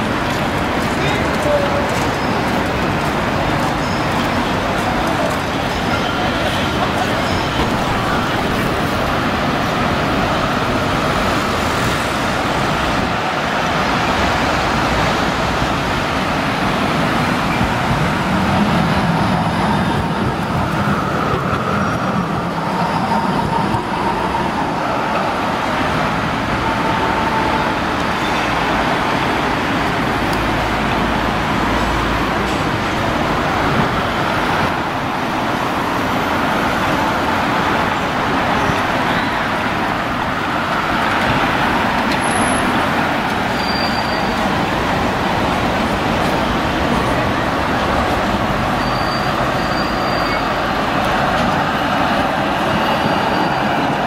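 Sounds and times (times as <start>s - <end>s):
traffic noise: 0.0s - 54.0s
tram approaching: 0.0s - 54.0s
tram rolling past: 0.0s - 54.0s.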